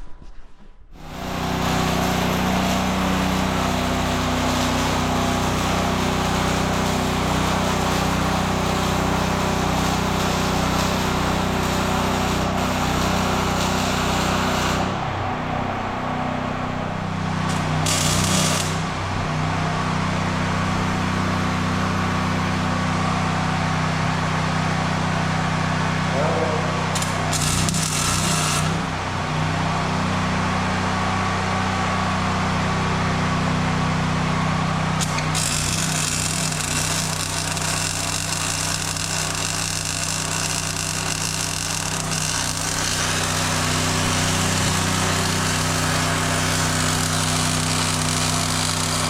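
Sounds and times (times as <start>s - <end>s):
machinery humming: 0.9s - 49.0s.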